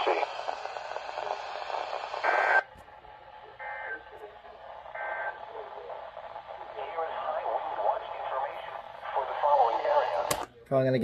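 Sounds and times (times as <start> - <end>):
radio speech through speaker: 0.0 - 2.6, 3.4 - 10.4.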